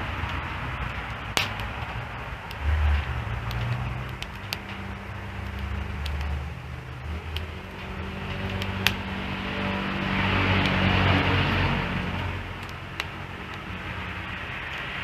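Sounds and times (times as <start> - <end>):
campfire popping: 0.0 - 15.0.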